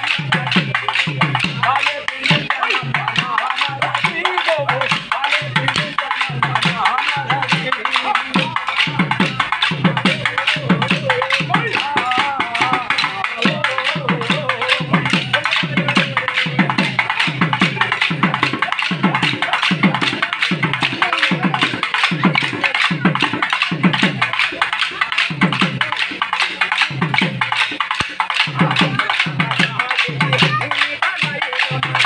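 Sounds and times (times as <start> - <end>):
sharp clicking percussion: 0.0 - 32.0.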